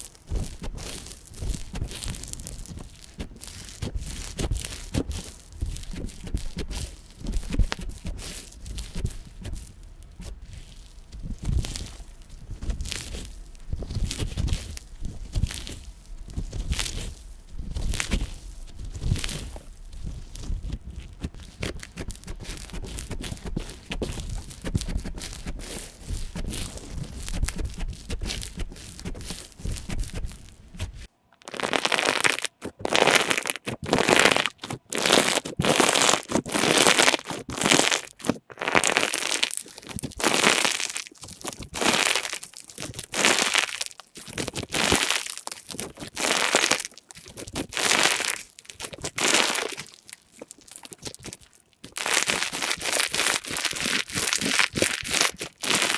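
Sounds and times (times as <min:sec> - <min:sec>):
slime crackling when squeezed: 0:00.0 - 0:55.9.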